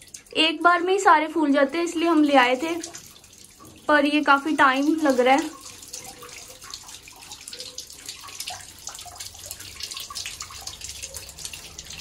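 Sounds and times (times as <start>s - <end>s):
tap water running: 0.0s - 12.0s
water dripping: 0.0s - 12.0s
water splashing into bucket: 0.0s - 12.0s.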